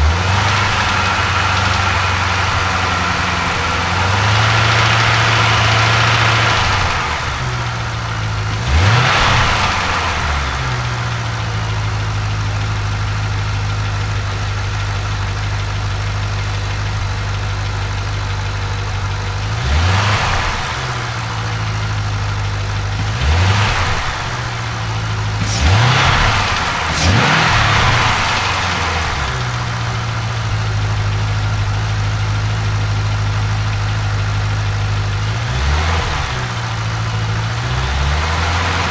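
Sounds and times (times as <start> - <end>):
car engine idling with tick: 0.0 - 38.9
engine throttle blips: 0.0 - 38.9.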